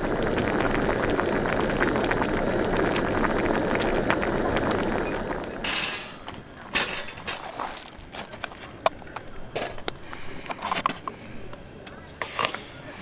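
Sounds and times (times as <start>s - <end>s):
stew boiling in a pot: 0.0s - 13.0s.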